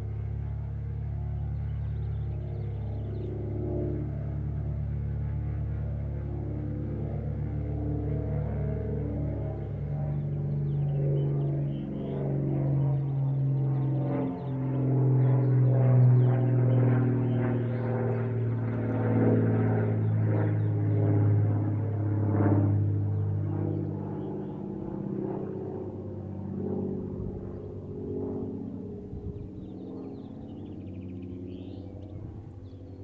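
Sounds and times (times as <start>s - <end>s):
propeller airplane engine: 0.0s - 33.0s.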